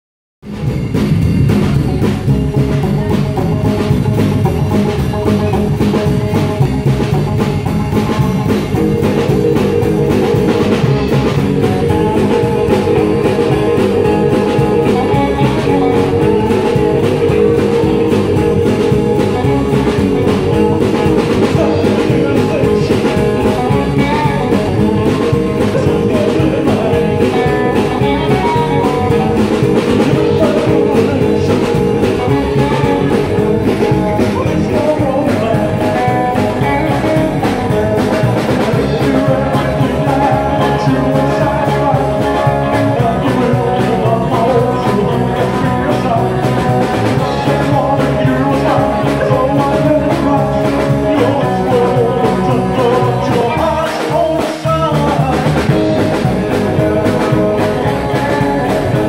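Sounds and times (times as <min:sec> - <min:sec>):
rock and roll band playing: 0:00.4 - 0:59.0
slapped upright bass: 0:00.4 - 0:59.0.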